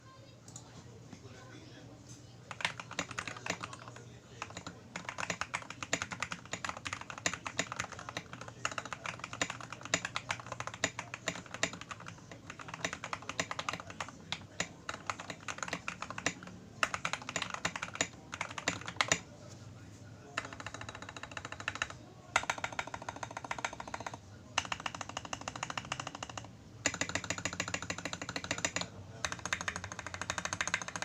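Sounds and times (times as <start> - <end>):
fast typing on mechanical keyboard: 2.5 - 19.2, 20.3 - 31.0.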